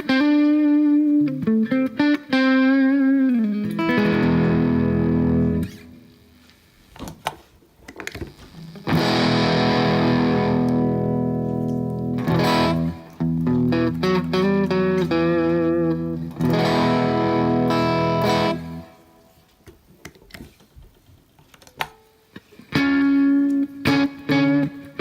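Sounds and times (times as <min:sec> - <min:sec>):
overdriven electric guitar: 0:00.0 - 0:06.6, 0:08.1 - 0:19.4, 0:22.3 - 0:25.0.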